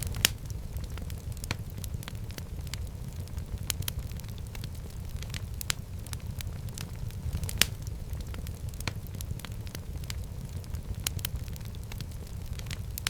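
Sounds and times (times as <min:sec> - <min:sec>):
fire crackling and popping: 0:00.0 - 0:13.0
fire flames rumbling: 0:00.0 - 0:13.0.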